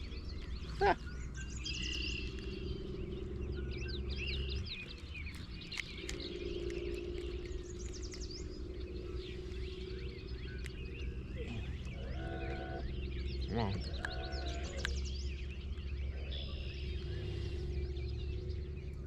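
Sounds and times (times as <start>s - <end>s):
birds chirping and singing: 0.0s - 19.0s
steady low hum: 0.0s - 19.0s.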